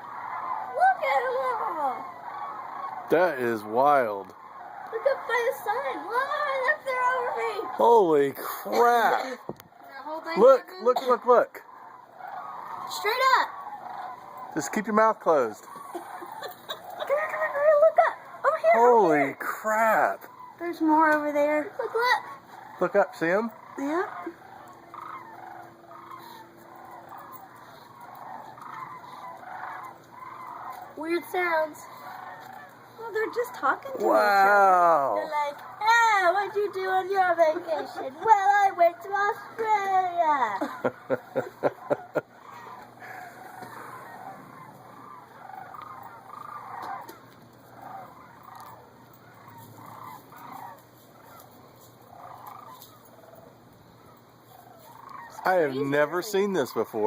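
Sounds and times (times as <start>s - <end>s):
flock of birds calling: 0.0s - 57.0s.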